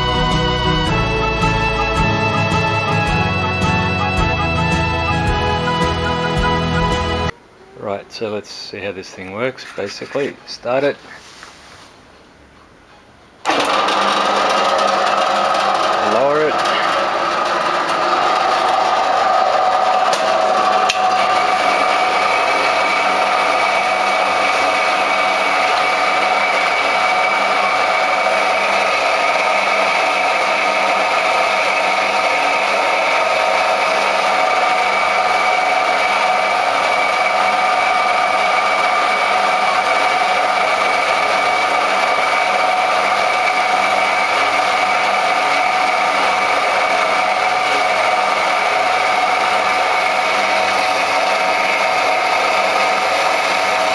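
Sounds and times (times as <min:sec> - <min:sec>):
bandsaw humming and whining: 0:00.0 - 0:07.4, 0:13.4 - 0:53.9.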